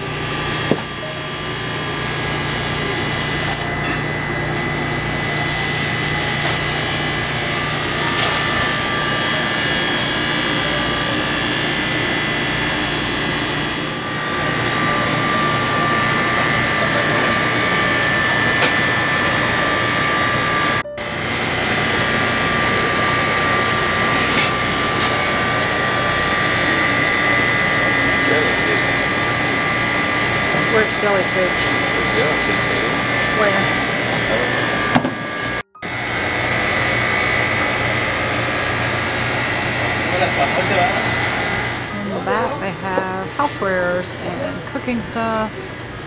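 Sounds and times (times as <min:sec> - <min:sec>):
high whining tones: 0:00.0 - 0:46.0
machinery hum and hiss: 0:00.0 - 0:46.0.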